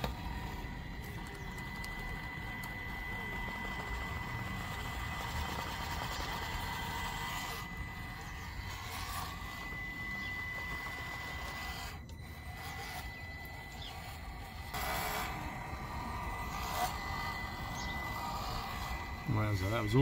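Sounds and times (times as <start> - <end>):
rc car electric motor running: 0.0 - 20.0.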